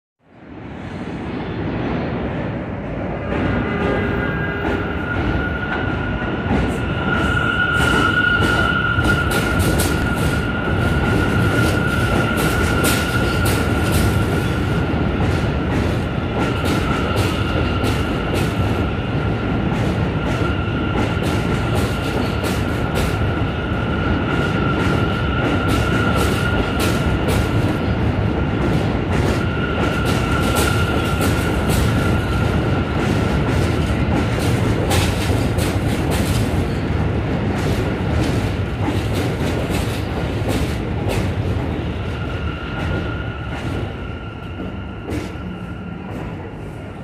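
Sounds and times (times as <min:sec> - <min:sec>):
train wheels rumbling on rail: 0:00.3 - 0:47.0.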